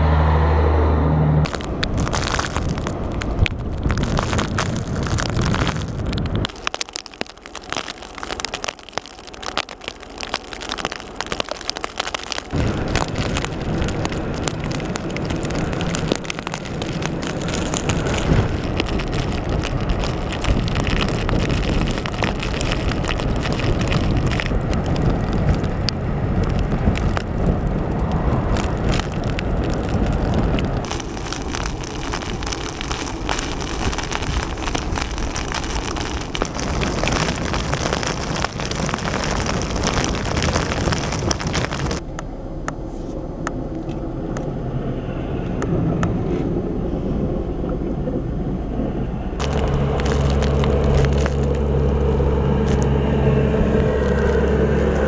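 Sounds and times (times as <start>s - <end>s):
strong wind blowing: 0.0s - 6.5s, 12.5s - 42.0s, 43.6s - 55.0s.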